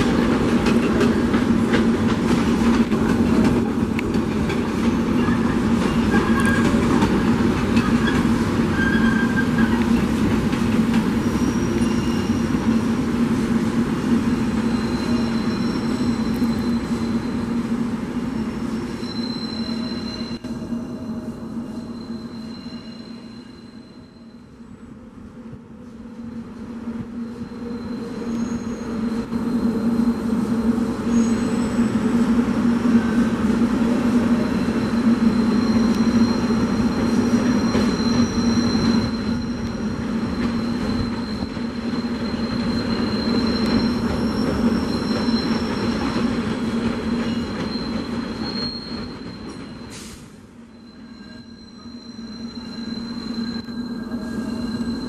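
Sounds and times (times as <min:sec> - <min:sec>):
train wheels squealing: 0:00.0 - 0:13.1, 0:14.0 - 0:24.9, 0:27.1 - 0:32.3, 0:33.0 - 0:55.0
train low hum: 0:00.0 - 0:55.0.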